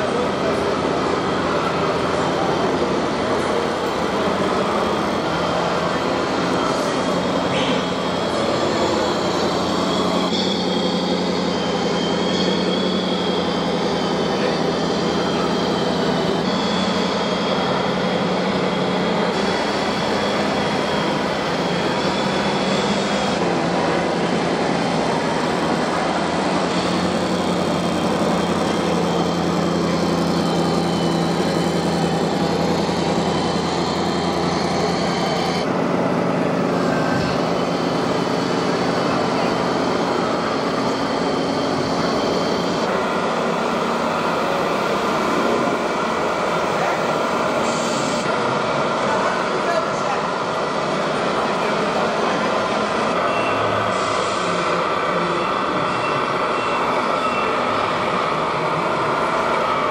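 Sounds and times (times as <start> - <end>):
model truck motors whining: 0.0 - 59.9.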